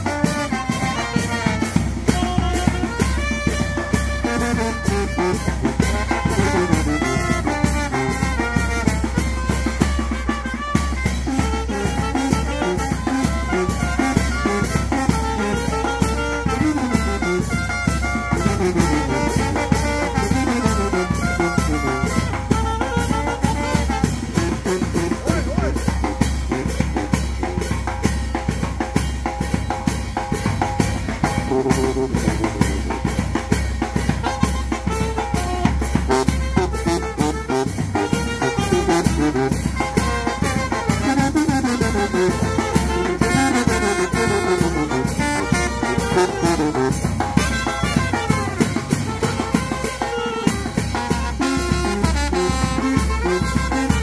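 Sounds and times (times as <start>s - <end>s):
brass band playing: 0.0s - 54.0s
drums and cymbal beat: 0.0s - 54.0s.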